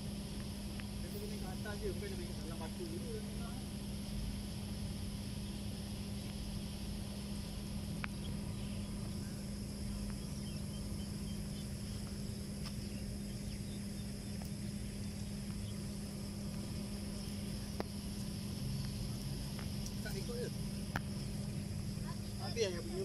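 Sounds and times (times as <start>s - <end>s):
insects chirring: 0.0s - 23.0s
low hum: 0.0s - 23.0s.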